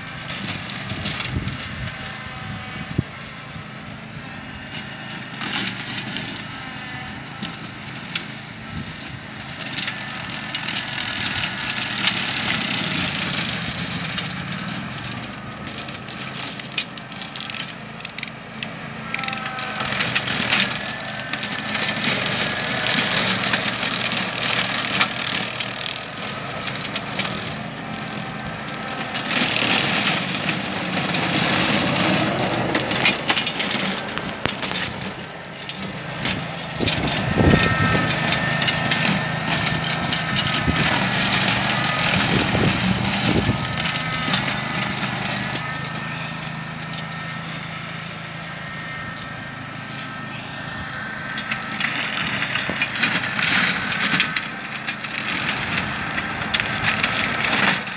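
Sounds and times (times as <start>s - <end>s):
engine drone: 0.0s - 57.9s
blade splintering sapling stems: 7.4s - 48.0s, 50.8s - 57.9s.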